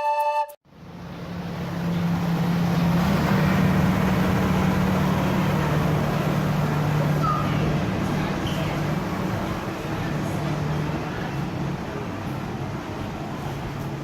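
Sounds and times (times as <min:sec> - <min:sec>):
train rumbling: 0:00.7 - 0:14.0.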